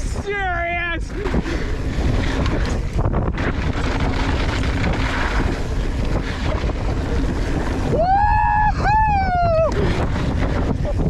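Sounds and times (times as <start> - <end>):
low rumble: 0.0 - 11.0
wind on microphone: 0.0 - 11.0.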